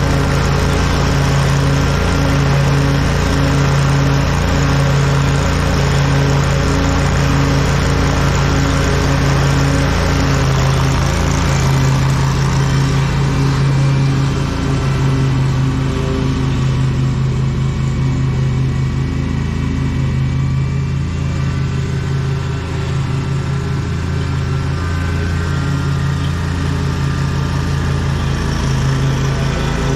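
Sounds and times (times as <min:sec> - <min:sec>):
lawn mower engine running: 0:00.0 - 0:29.9.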